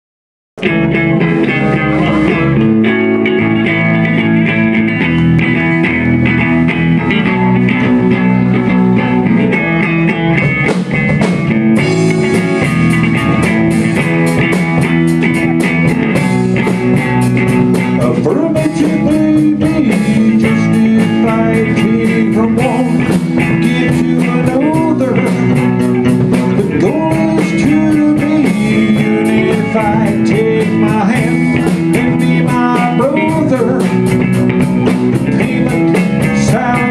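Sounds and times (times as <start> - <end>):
bass guitar: 0.6 - 36.9
drum kit: 0.6 - 36.9
electric guitar: 0.6 - 36.9.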